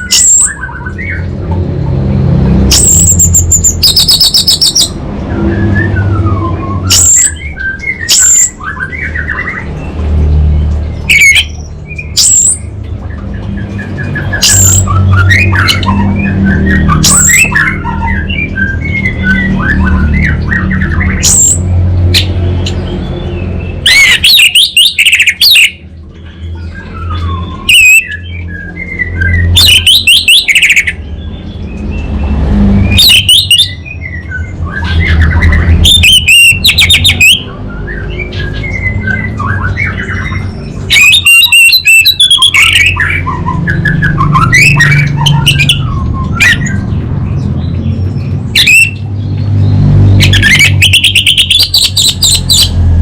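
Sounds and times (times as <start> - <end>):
soft bird chirps: 2.7 - 52.8.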